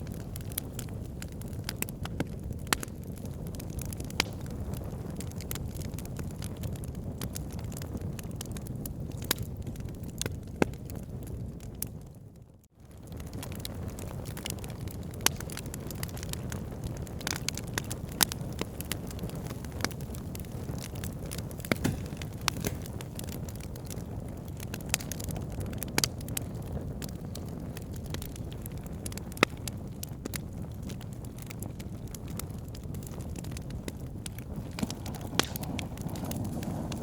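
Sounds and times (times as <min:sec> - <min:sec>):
fire pops and snaps: 0:00.0 - 0:12.2, 0:12.8 - 0:37.0
fire burning rumble: 0:00.0 - 0:37.0.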